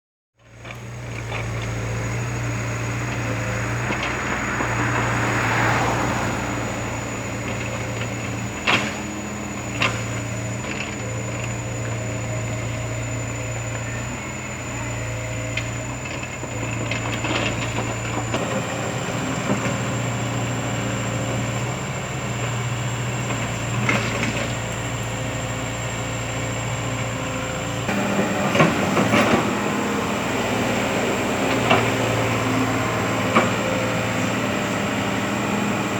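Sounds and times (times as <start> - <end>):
excavator diesel engine running: 0.4 - 35.9.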